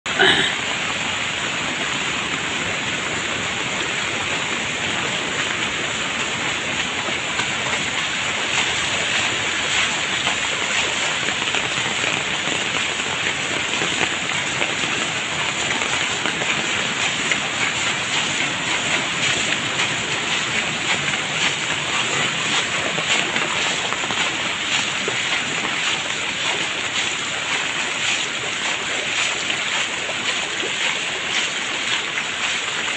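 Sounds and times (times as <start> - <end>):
floodwater rushing: 0.0 - 32.9.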